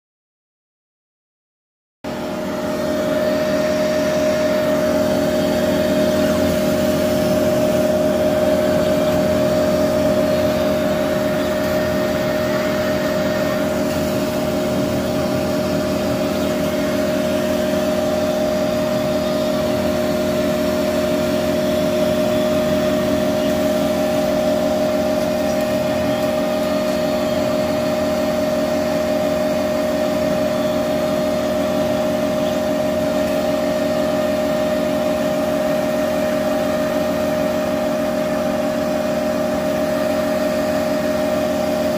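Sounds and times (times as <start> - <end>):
laser cutter hum and whine: 2.1 - 41.9.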